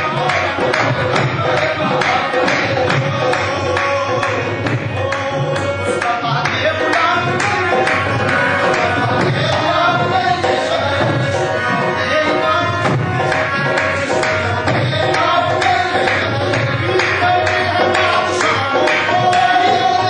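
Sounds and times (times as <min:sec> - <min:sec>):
hand drum rhythm: 0:00.0 - 0:20.0
harmonium melody: 0:00.0 - 0:20.0
voices singing: 0:00.0 - 0:20.0.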